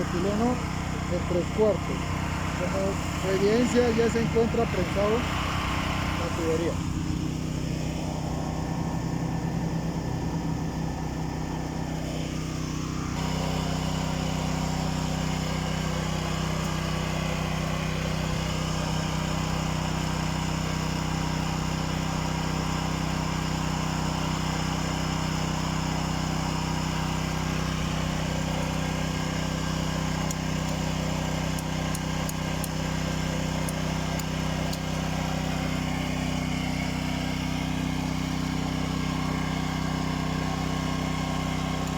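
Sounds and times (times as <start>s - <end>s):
portable generator engine running: 0.0s - 41.9s.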